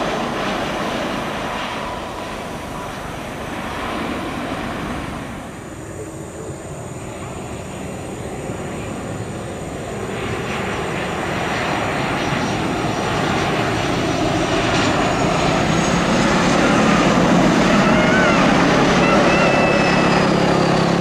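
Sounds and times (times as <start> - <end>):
high jet engine whine: 0.0 - 21.0
jet engines rumble: 0.0 - 21.0.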